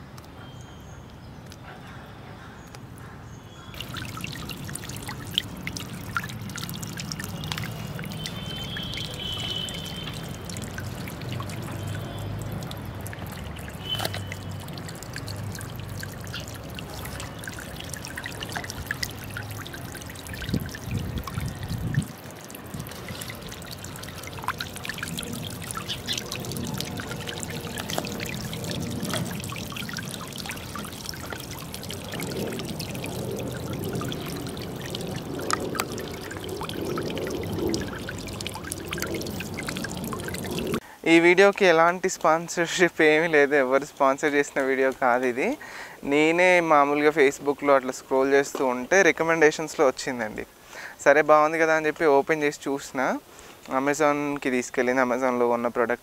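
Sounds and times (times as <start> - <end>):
fountain water splashing: 3.7 - 50.9.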